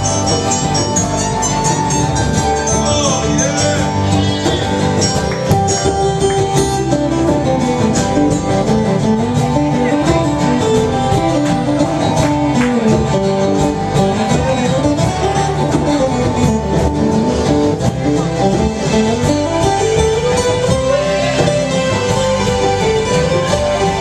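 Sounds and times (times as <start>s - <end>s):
live band playing: 0.0s - 24.0s
plucked guitar: 0.0s - 24.0s.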